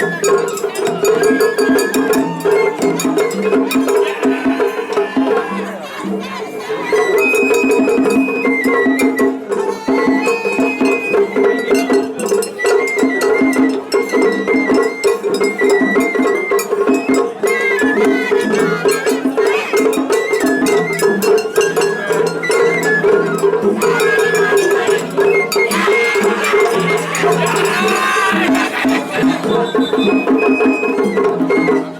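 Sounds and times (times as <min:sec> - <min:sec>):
bamboo flute melody: 0:00.0 - 0:31.9
taiko drumming: 0:00.0 - 0:31.9.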